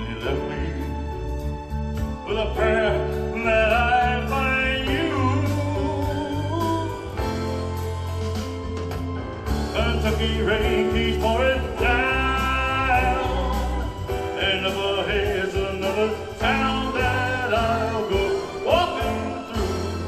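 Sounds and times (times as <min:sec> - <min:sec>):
slow country-pop backing music: 0:00.0 - 0:20.0.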